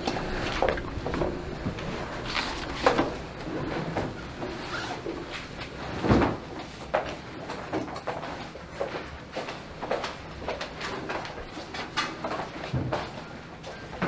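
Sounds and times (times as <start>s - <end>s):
bags and folders rustling: 0.0s - 14.0s.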